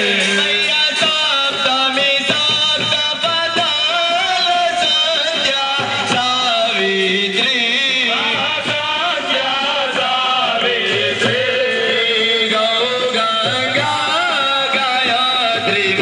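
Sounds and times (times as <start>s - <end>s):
group singing devotional song: 0.0s - 16.0s
musical accompaniment: 0.0s - 16.0s.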